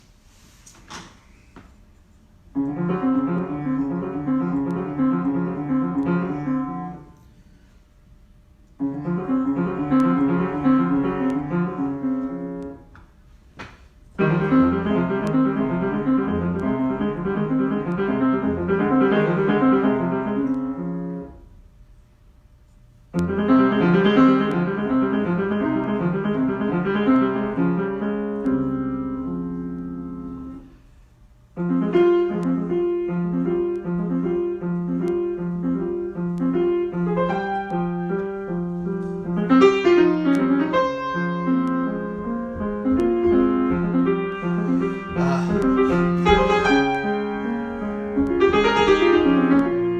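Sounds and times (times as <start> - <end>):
improvised piano playing: 2.5 - 7.1, 8.8 - 12.9, 14.2 - 21.4, 23.2 - 30.7, 31.5 - 49.9.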